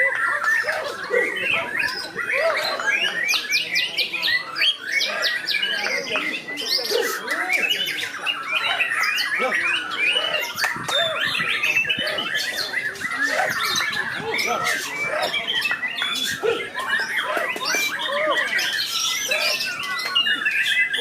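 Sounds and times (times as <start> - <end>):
birds singing: 0.0 - 21.0.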